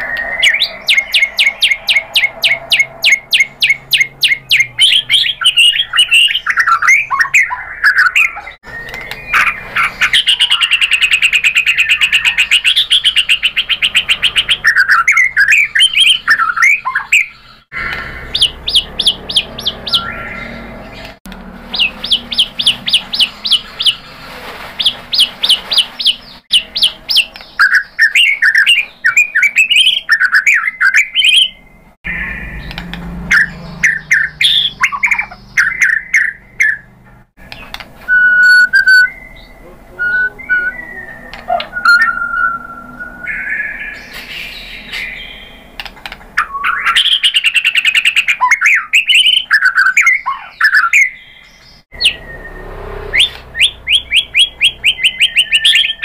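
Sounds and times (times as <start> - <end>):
bird singing varied song: 0.0 - 56.0.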